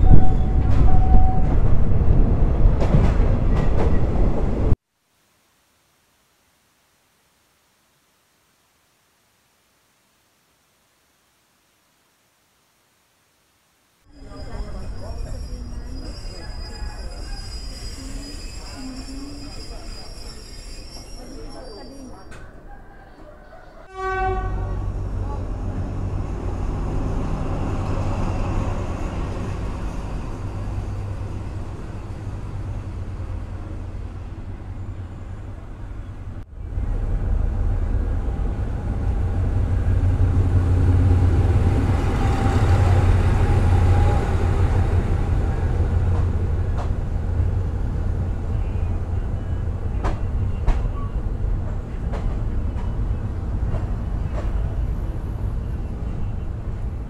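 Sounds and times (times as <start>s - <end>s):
train rumbling on track: 0.0s - 4.8s, 14.1s - 23.0s, 23.8s - 57.0s.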